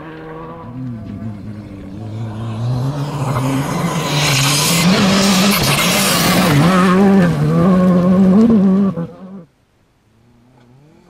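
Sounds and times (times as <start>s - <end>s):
rally car engine at high revs: 0.0s - 9.5s, 10.3s - 11.0s.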